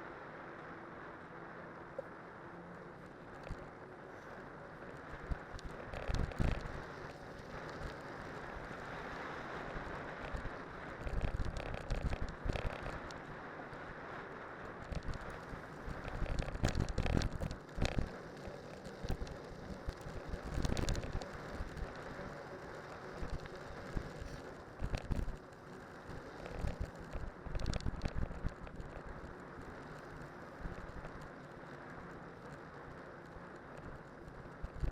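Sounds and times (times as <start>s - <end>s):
bike tyres on snow: 2.9s - 34.9s.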